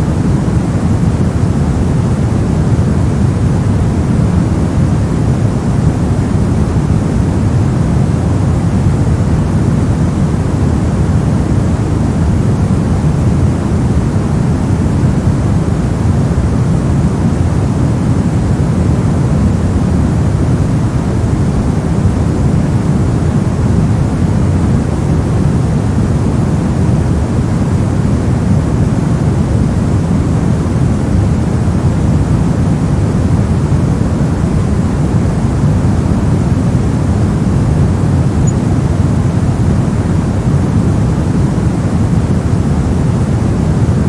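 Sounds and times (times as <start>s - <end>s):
low white noise: 0.0s - 44.0s.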